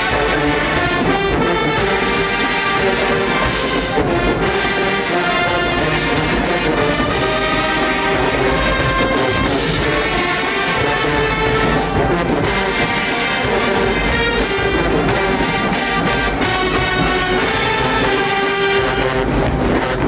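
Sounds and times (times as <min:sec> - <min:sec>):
brass chords: 0:00.0 - 0:20.0
percussion strikes: 0:00.0 - 0:20.0.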